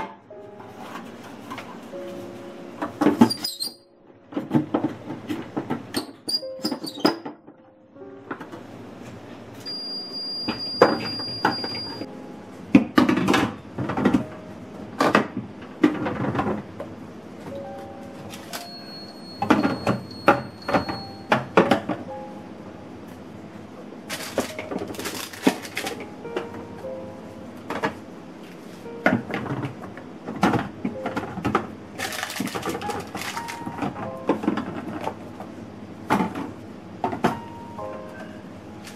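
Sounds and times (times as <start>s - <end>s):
faint background music: 0.0s - 10.8s, 11.4s - 38.9s.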